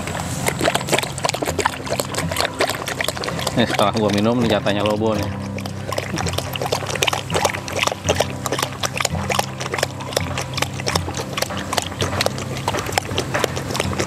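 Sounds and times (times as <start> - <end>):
dog lapping water: 0.0 - 14.0.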